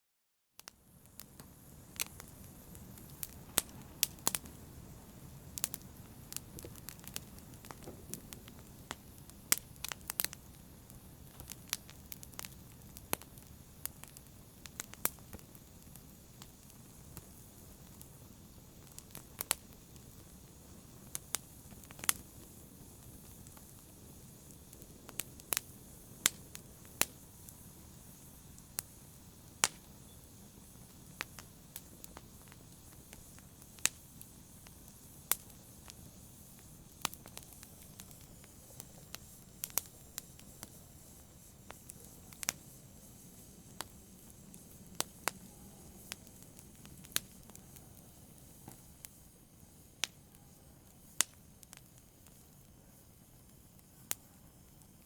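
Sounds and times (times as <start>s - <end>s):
fire crackling and popping: 0.6s - 55.0s
low rumble of burning: 0.6s - 55.0s.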